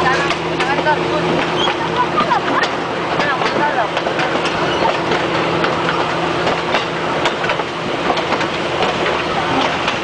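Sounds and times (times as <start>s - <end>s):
train rumble with low hum: 0.0s - 10.0s
wheels clicking on track: 0.0s - 10.0s.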